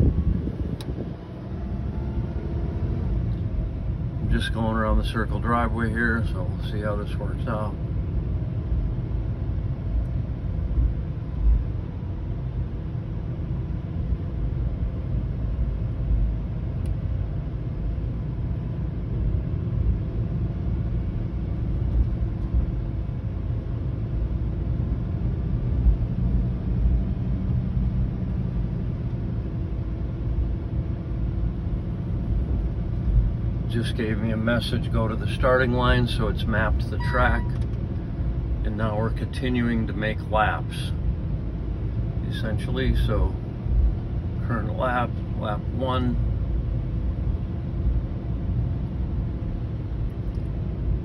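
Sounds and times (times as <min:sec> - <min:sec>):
car engine running: 0:00.0 - 0:51.0.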